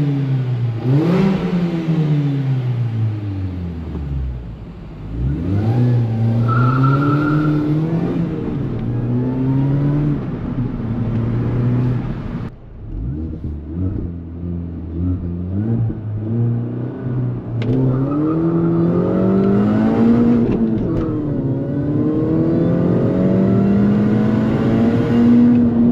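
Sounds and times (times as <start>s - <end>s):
car engine accelerating hard: 0.0s - 25.9s.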